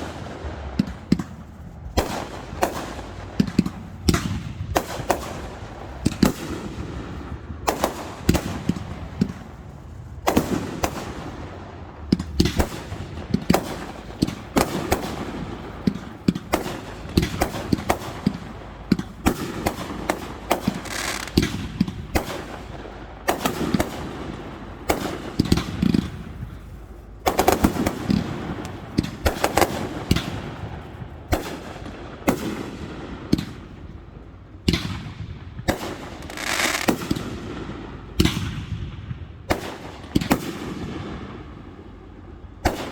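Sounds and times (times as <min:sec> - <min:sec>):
fireworks bangs and booms: 0:00.0 - 0:42.9.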